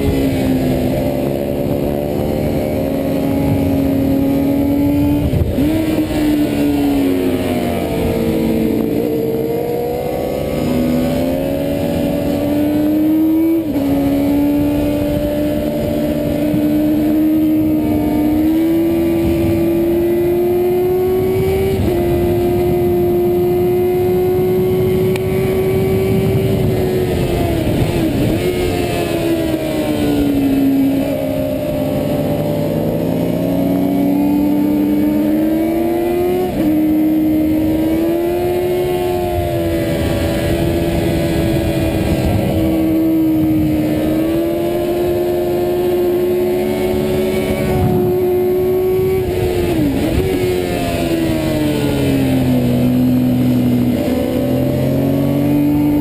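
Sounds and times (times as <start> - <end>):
wind rush: 0.0 - 33.4, 36.4 - 56.0
motorcycle engine at high revs: 0.0 - 56.0.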